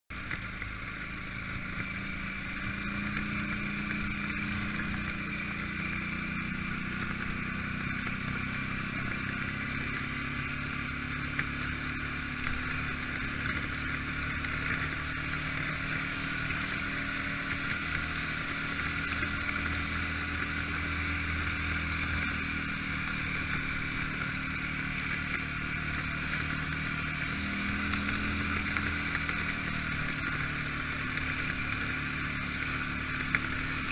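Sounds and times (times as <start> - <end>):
vehicle engine running: 0.1 - 33.9.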